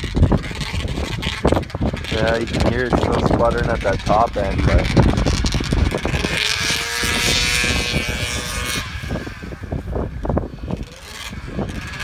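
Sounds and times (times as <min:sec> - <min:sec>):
snowmobile engine at high revs: 0:00.0 - 0:12.0.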